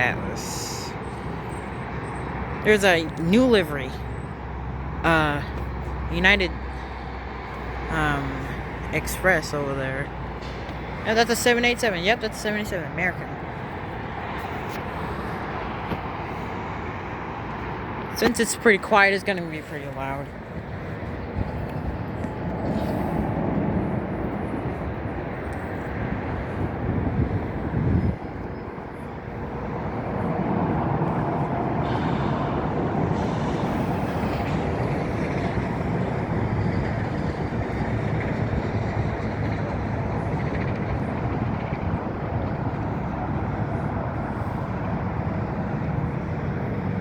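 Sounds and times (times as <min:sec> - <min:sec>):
jet engines droning: 0:00.0 - 0:47.0.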